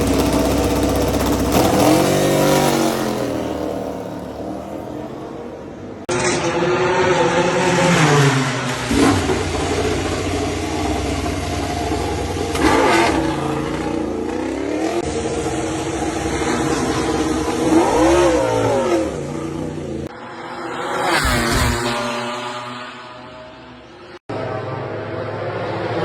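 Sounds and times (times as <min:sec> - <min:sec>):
high-revving engines: 0:00.0 - 0:26.0
racing motorcycles passing: 0:00.0 - 0:26.0.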